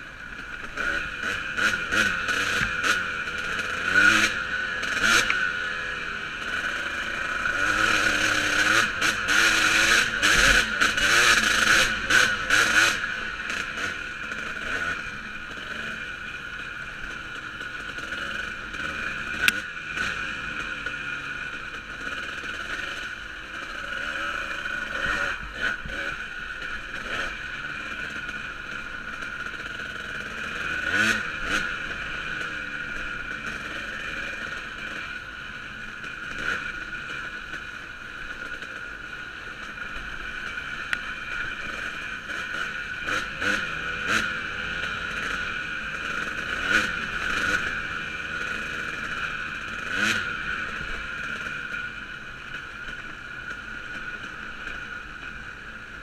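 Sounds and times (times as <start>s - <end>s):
dirt bike engine revving: 0.1s - 56.0s.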